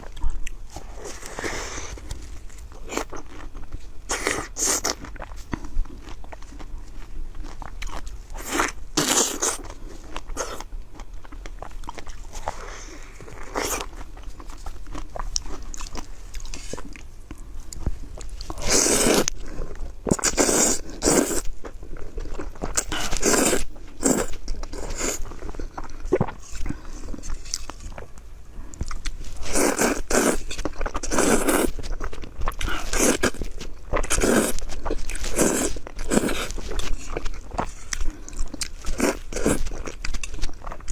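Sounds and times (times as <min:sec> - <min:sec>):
person biting and chewing food: 0:00.0 - 0:28.2, 0:28.8 - 0:40.9.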